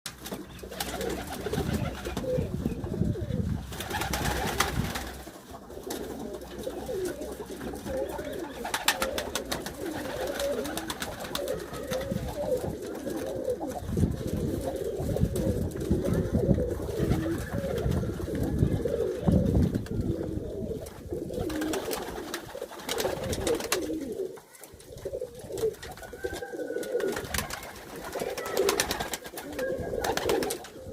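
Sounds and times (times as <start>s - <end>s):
pigeons cooing: 0.3s - 30.9s.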